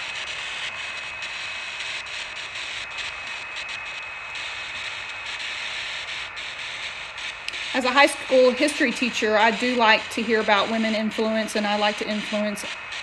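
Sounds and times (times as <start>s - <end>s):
static hiss: 0.0s - 13.0s.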